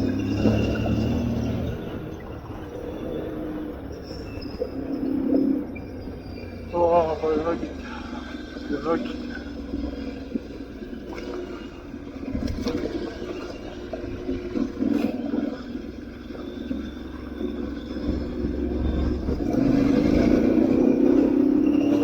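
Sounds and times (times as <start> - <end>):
motorcycle engine at low speed: 0.0 - 22.0.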